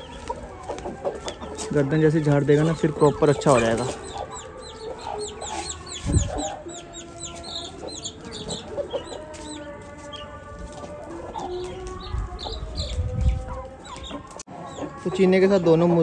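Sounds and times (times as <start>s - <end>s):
chickens clucking and calling: 0.0s - 16.0s.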